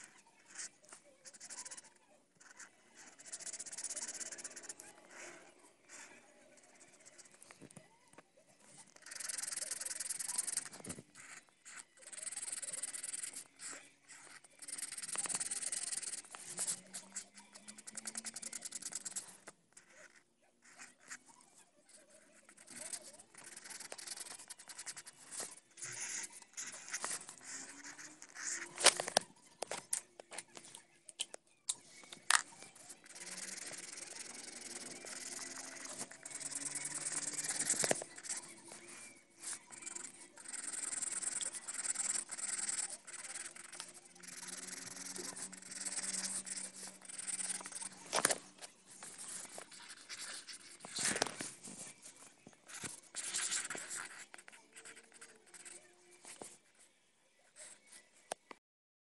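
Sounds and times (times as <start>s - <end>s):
markers scribbling on paper: 0.0s - 7.6s, 8.7s - 30.8s, 32.0s - 56.8s.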